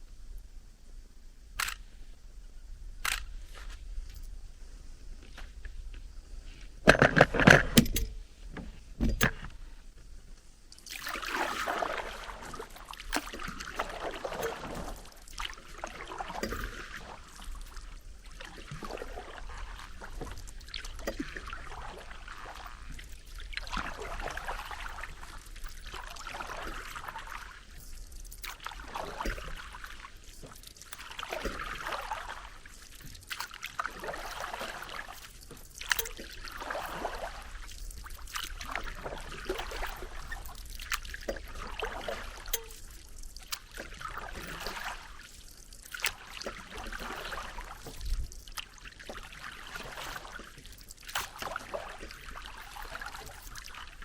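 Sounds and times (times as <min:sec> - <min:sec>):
water trickling and dripping: 0:10.7 - 0:54.0
paddle splashing in water: 0:10.8 - 0:54.0.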